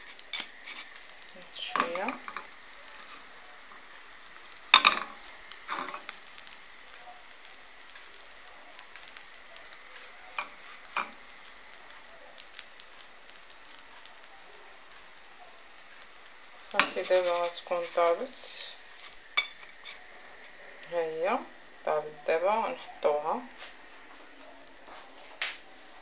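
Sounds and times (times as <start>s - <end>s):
oil sizzling under pancake: 0.0s - 26.0s.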